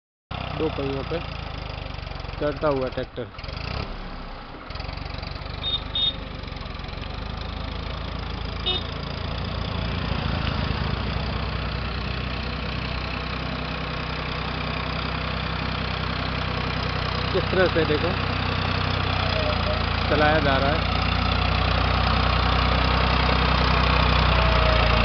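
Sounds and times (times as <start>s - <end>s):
vehicle engine running: 0.3s - 25.0s.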